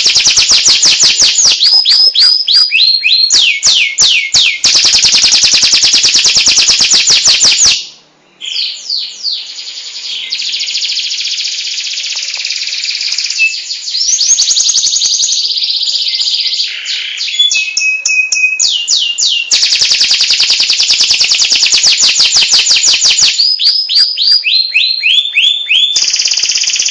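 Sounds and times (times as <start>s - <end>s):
canary singing trills: 0.0s - 26.9s.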